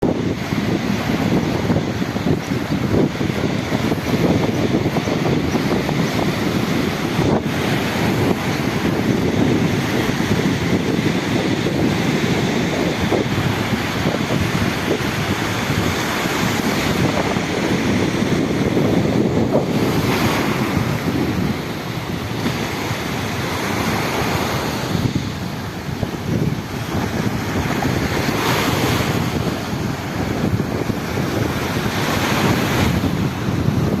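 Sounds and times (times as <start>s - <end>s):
sea waves washing: 0.0s - 34.0s
wind buffeting microphone: 0.0s - 34.0s.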